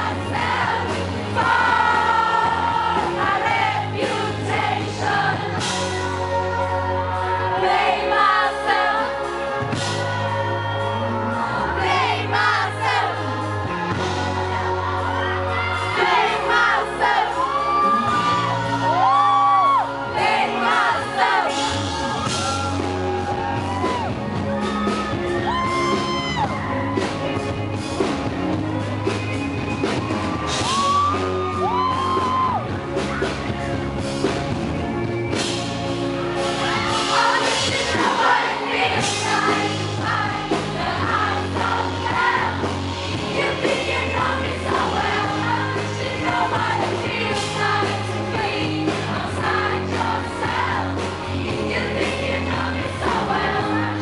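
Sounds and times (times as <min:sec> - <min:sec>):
bass line: 0:00.0 - 0:54.0
live band playing pop song: 0:00.0 - 0:54.0.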